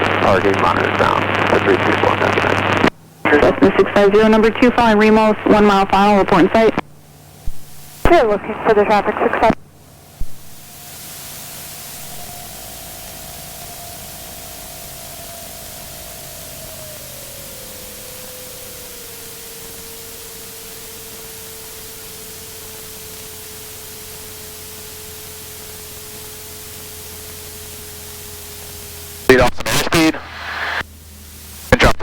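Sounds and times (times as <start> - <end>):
aircraft engine drone: 0.0 - 32.0
cockpit audio hiss: 0.0 - 32.0.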